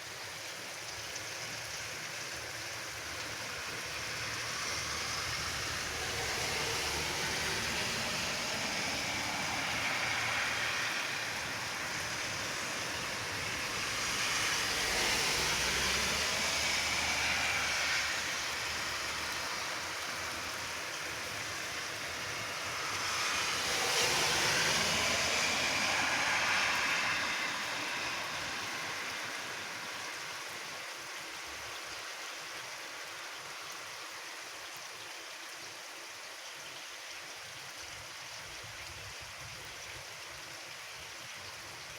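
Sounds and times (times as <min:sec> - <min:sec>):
heavy rain downpour: 0:00.0 - 0:41.9.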